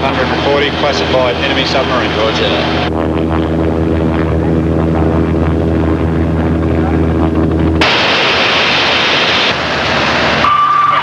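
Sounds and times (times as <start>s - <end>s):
aircraft engine drone in cabin: 0.0s - 11.0s.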